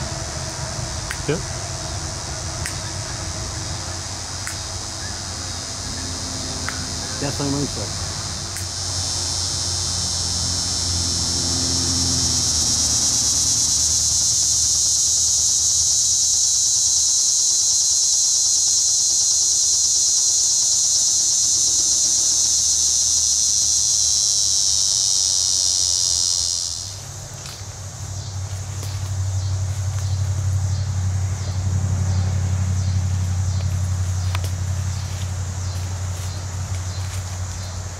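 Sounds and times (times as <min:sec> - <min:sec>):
cicada buzzing: 0:00.0 - 0:37.9.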